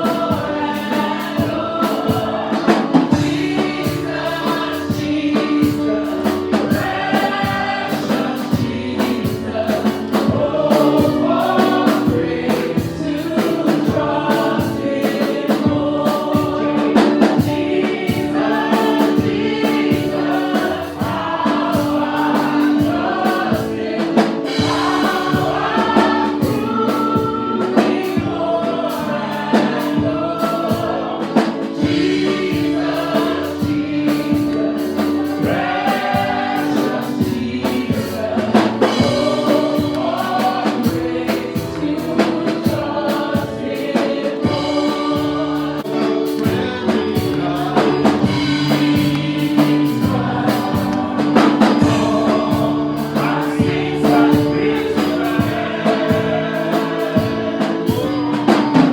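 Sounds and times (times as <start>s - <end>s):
group singing gospel: 0.0s - 58.9s
steady drum beat: 0.0s - 58.9s.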